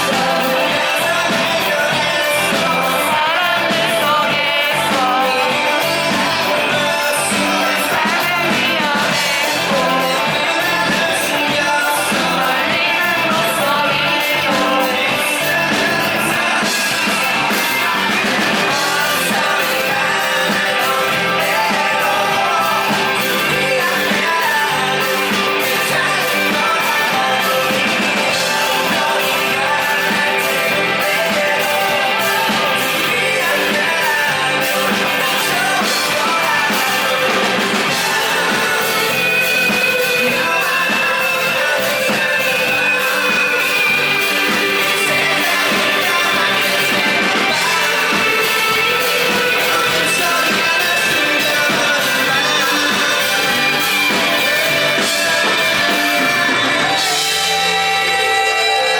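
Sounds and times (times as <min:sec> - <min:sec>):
bass guitar: 0:00.0 - 0:58.9
electric guitar: 0:00.0 - 0:58.9
person singing: 0:00.0 - 0:58.9
steady drum beat: 0:00.0 - 0:58.9.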